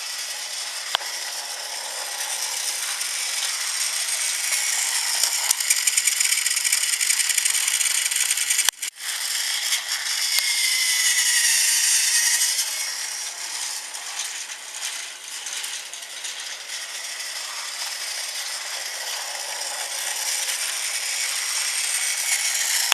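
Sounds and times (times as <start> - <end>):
toy train motor whirring: 0.0 - 22.9
toy train wheels rattling: 0.0 - 22.9.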